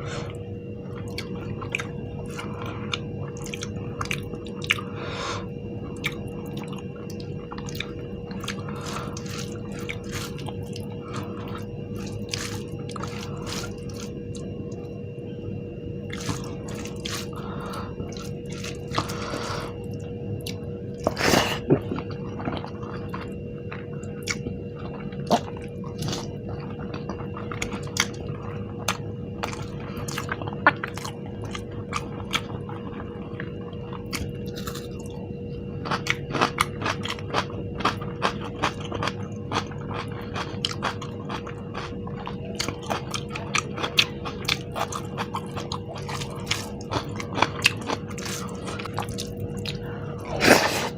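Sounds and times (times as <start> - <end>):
faint hum: 0.0 - 50.9
chewing with mouth clicks: 0.3 - 5.0, 5.8 - 14.9, 16.0 - 35.2, 35.8 - 50.9.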